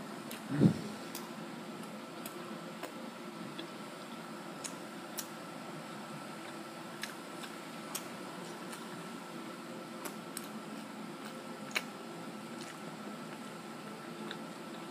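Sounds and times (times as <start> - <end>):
faint high hum: 0.0 - 14.9.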